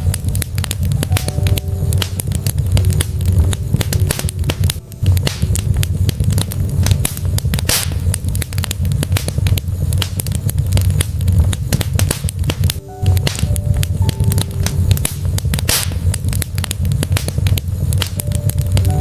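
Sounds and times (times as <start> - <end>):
logs crackling and popping in fireplace: 0.0 - 19.0
low fire rumble: 0.0 - 19.0.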